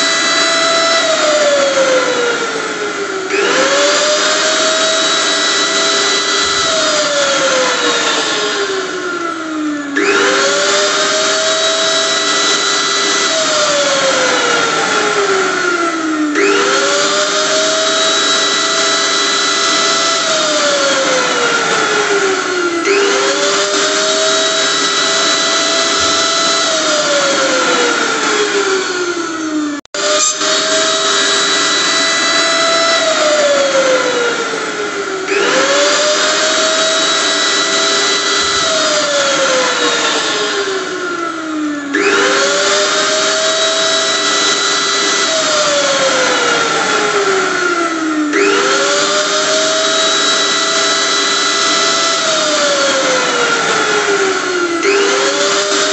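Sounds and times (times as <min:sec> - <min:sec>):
blender motor whirring: 0:00.0 - 0:55.9.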